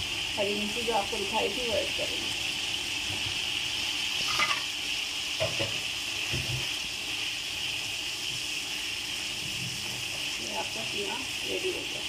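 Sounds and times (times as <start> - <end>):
meat sizzling in frying pan: 0.0 - 12.0.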